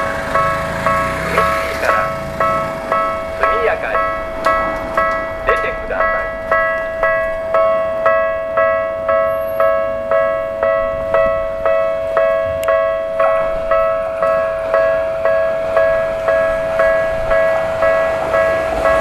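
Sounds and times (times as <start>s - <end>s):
electronic level-crossing bell: 0.0s - 19.0s
steady ringing tone: 0.0s - 19.0s.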